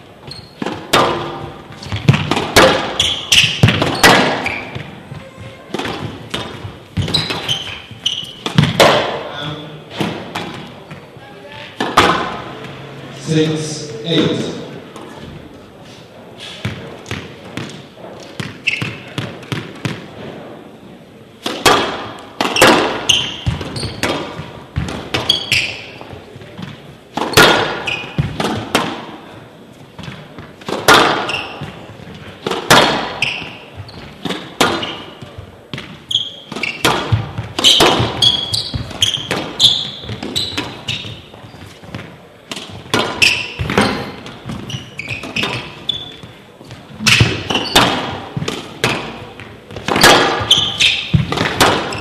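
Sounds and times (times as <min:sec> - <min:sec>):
squash ball hitting rackets and walls: 0:00.0 - 0:12.9, 0:16.4 - 0:20.8, 0:21.4 - 0:52.0
shoes squeaking on court: 0:00.0 - 0:20.4, 0:21.6 - 0:52.0.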